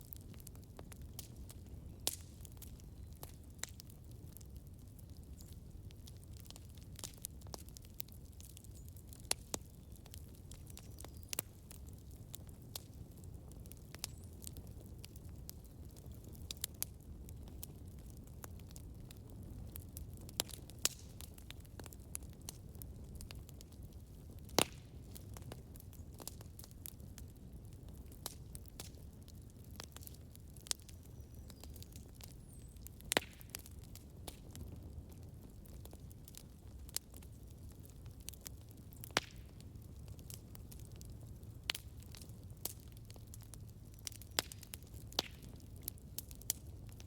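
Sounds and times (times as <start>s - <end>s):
campfire low rumble: 0.0s - 47.0s
wood crackles and pops: 0.0s - 47.0s.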